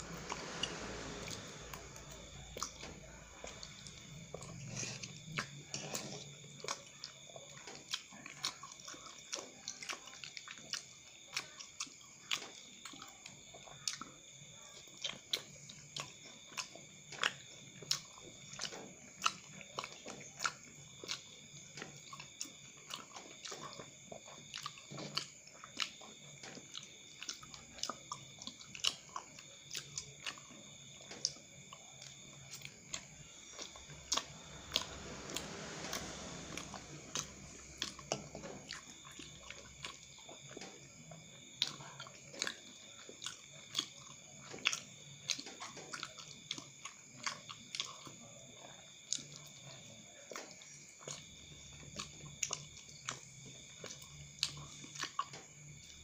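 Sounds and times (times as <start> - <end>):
person chewing with mouth clicks: 0.1 - 56.0.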